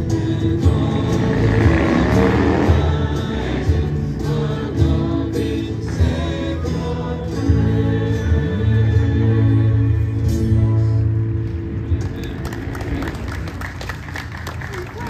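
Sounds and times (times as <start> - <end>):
music with held notes: 0.0 - 14.6.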